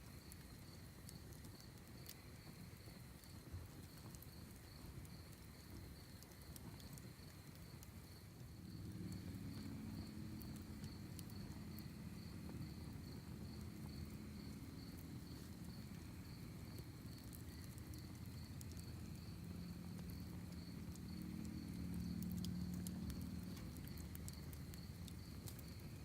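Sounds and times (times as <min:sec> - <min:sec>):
campfire crackling and popping: 0:00.0 - 0:26.0
crickets chirping: 0:00.0 - 0:26.0.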